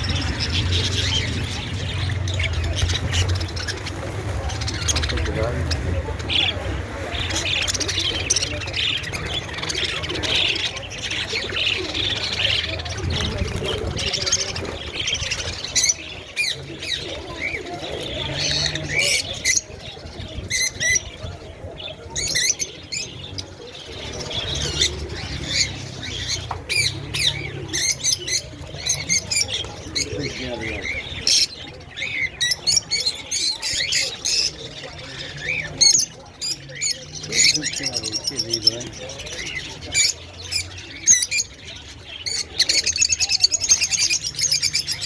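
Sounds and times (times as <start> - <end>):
parrots chattering and squawking: 0.0 - 45.0.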